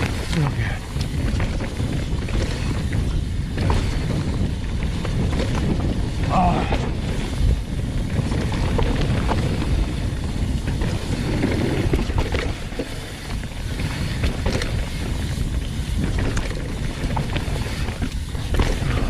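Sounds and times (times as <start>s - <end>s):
bike clicks and rattles: 0.0s - 19.0s
bike tyre rumble on dirt: 0.0s - 19.0s
wind buffeting microphone: 0.0s - 19.0s.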